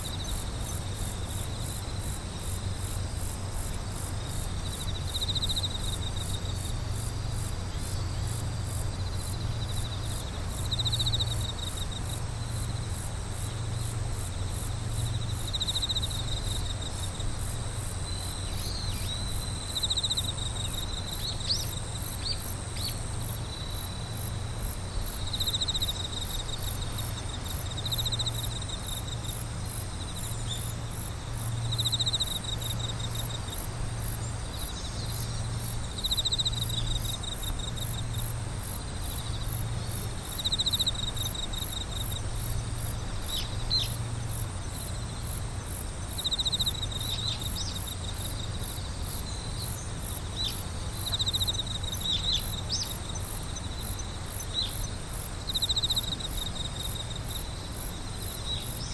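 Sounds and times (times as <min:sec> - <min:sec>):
lower insect trill: 0:00.0 - 0:58.9.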